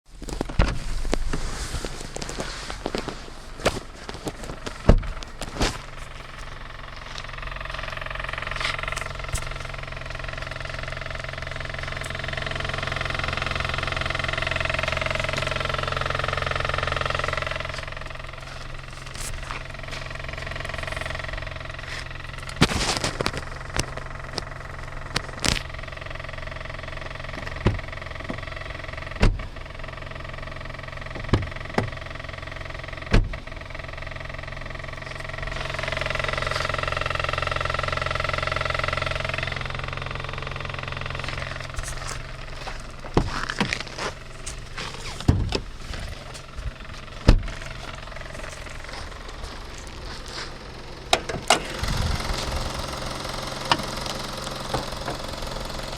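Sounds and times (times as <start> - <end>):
car engine idling: 0.0 - 55.9
high whine: 0.1 - 30.0, 32.9 - 55.9
rattle under wheel arch: 0.1 - 55.9.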